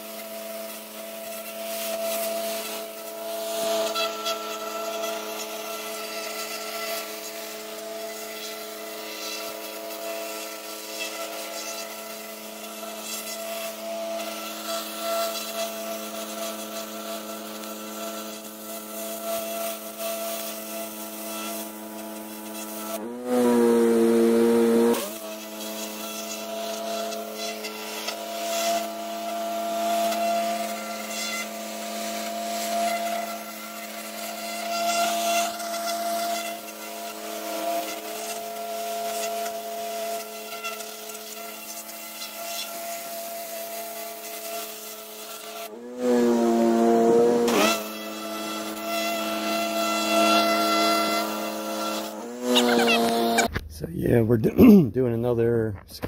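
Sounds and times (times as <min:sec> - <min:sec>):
pressure washer running: 0:00.0 - 0:53.5
water jet spraying on tiles: 0:00.0 - 0:53.5.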